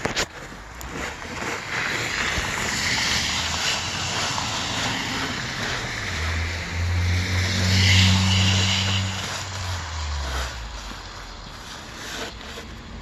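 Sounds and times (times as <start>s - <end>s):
snow shovel scraping pavement: 0.0s - 13.0s.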